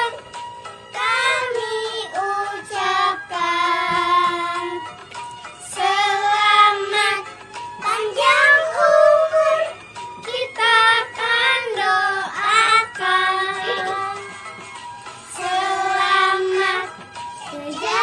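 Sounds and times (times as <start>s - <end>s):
children singing together: 0.0s - 0.2s, 0.9s - 4.8s, 5.7s - 14.3s, 15.3s - 18.0s.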